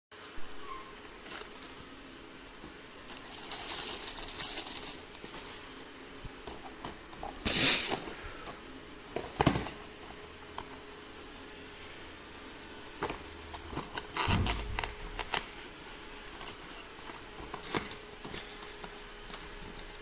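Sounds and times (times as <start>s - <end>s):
plastic packaging rustling: 1.0s - 10.9s, 12.9s - 20.0s.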